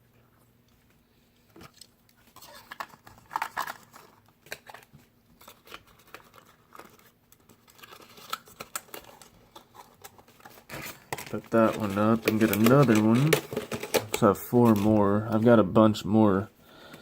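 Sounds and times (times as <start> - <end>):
plastic packaging crinkling: 1.6 - 15.5.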